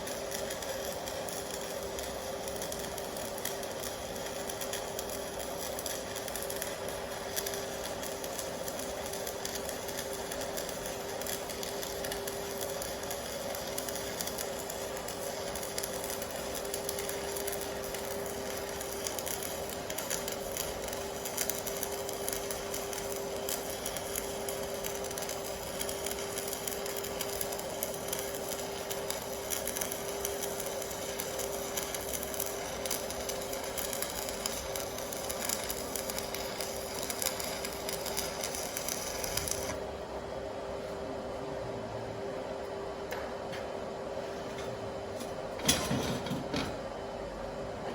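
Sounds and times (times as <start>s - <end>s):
welding arc crackling hiss: 0.0s - 40.0s
welder hum: 0.0s - 47.9s.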